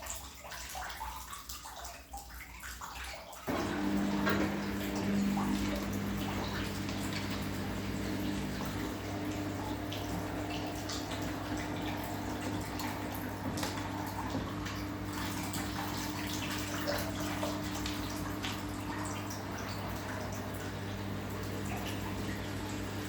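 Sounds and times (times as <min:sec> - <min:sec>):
water splashing in washing machine drum: 0:00.0 - 0:23.0
washing machine low hum: 0:03.5 - 0:23.0.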